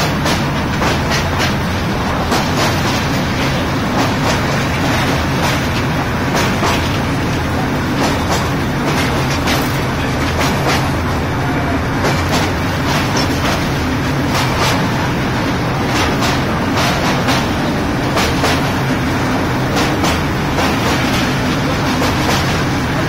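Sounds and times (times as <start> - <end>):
rail clicks: 0.0 - 23.0
train wheels rumbling: 0.0 - 23.0.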